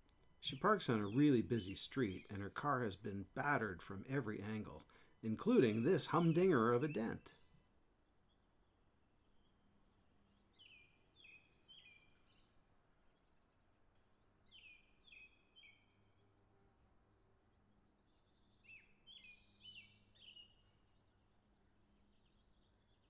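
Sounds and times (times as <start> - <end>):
faint bird song: 0.0 - 23.0.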